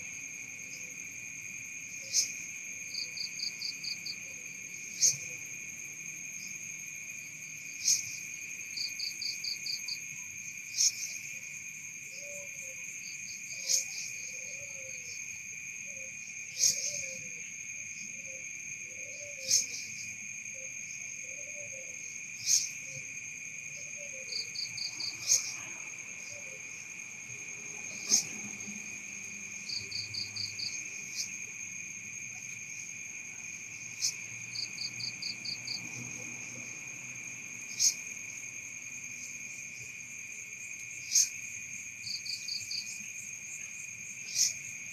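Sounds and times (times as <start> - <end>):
cricket trill: 0.0 - 44.9
high insect drone: 0.0 - 44.9
lower repeating insect call: 0.0 - 44.9.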